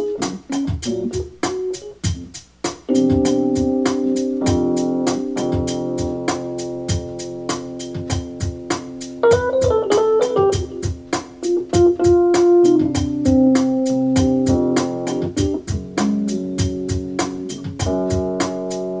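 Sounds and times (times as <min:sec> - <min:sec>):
organ chords and melody: 0:00.0 - 0:19.0
steady percussion beat: 0:00.0 - 0:19.0.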